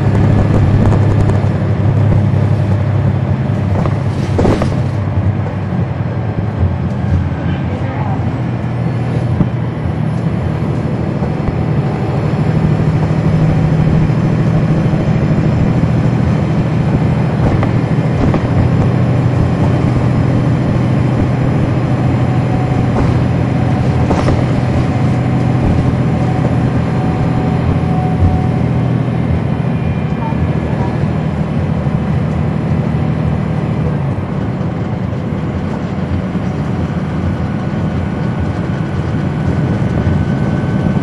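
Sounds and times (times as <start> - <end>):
bus diesel engine drone: 0.0 - 41.0.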